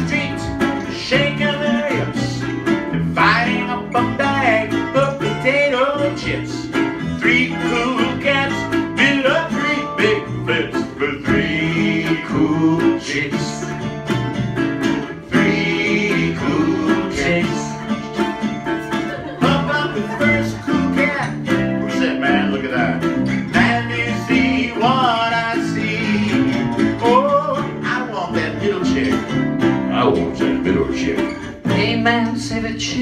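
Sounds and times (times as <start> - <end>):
man singing: 0.0 - 14.1, 15.2 - 33.0
acoustic guitars: 0.0 - 33.0
ukulele strumming: 0.0 - 33.0.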